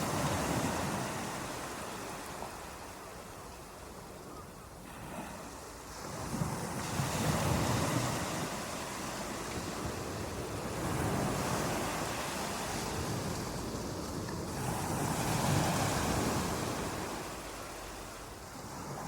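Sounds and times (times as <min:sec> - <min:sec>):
ocean waves breaking: 0:00.0 - 0:03.4, 0:04.8 - 0:19.0.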